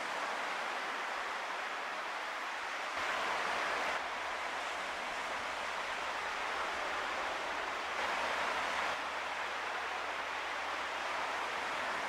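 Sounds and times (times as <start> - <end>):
steady seashore rushing: 0.0 - 12.0.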